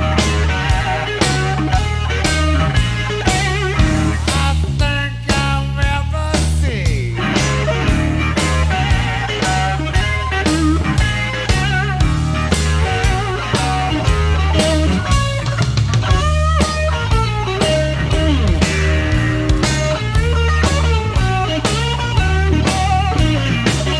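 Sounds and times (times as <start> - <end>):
electric guitar lead: 0.0 - 4.8, 7.1 - 23.9
bass: 0.0 - 23.9
drums keeping a steady beat: 0.0 - 23.9.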